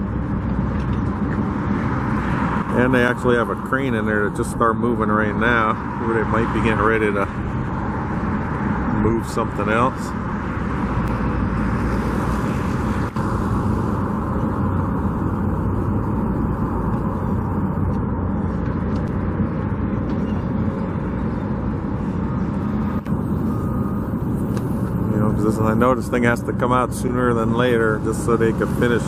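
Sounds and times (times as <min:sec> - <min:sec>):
car engine hum: 0:00.0 - 0:29.0.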